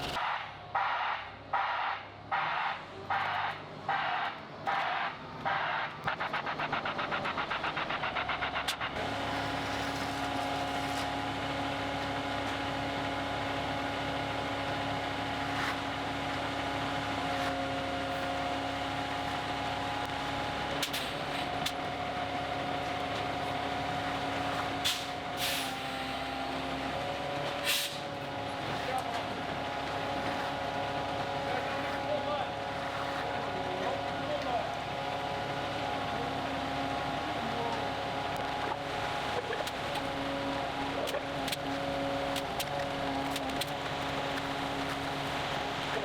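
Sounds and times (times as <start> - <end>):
diesel engine droning: 0.0 - 46.0.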